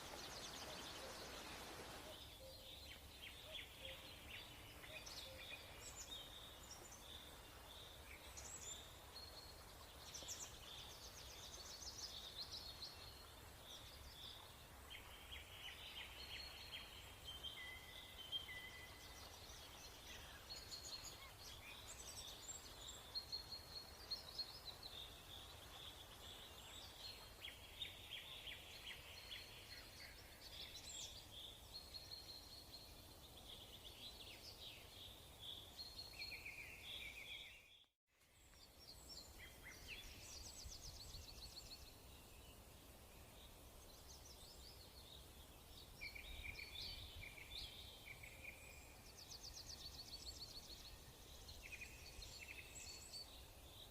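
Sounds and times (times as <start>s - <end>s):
birds chirping and twittering: 0.0s - 53.9s.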